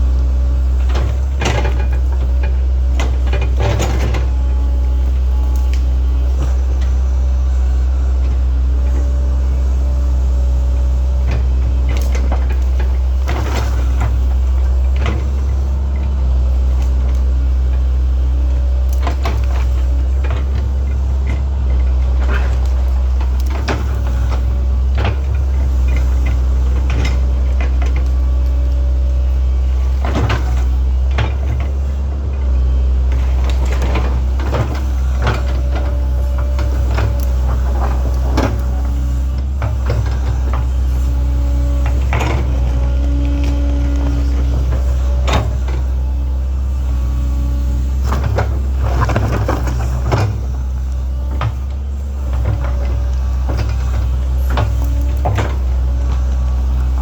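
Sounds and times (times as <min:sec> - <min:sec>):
excavator engine droning: 0:00.0 - 0:57.0
clanks and knocks of digging: 0:00.6 - 0:57.0.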